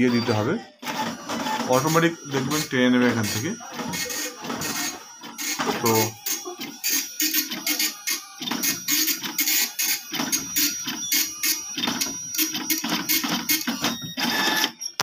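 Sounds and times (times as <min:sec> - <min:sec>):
dot-matrix printer buzzing: 0:00.0 - 0:15.0.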